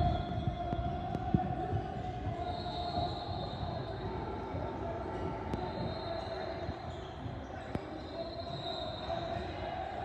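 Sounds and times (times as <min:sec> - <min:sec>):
murmur of voices: 0:00.0 - 0:10.0.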